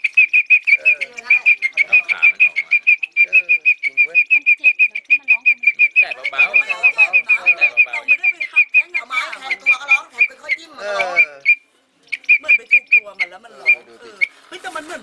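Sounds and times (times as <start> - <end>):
grasshopper chirping: 0.0 - 14.8.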